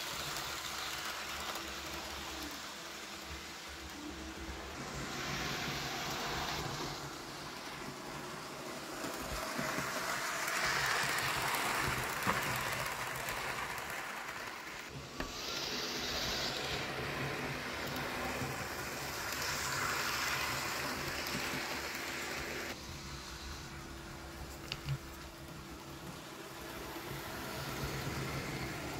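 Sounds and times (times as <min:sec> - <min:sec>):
model train motor whirring: 0:00.0 - 0:23.6.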